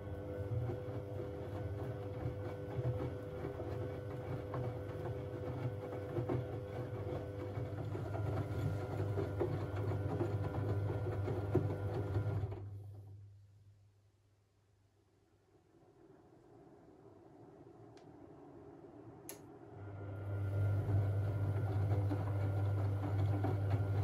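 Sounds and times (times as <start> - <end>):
washing machine motor hum: 0.0 - 13.4, 15.7 - 24.0.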